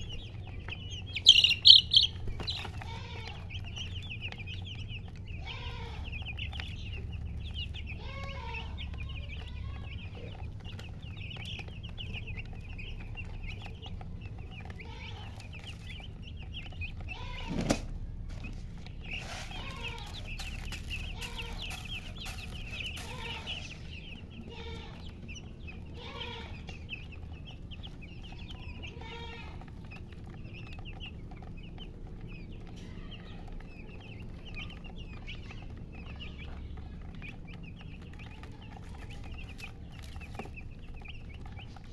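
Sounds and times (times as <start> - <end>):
chicks peeping: 0.0 - 41.9
hen clucking: 0.0 - 41.9.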